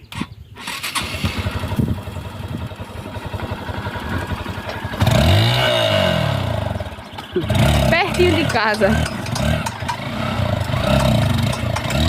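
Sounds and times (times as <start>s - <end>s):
small motorcycle engine revving: 0.1s - 12.0s.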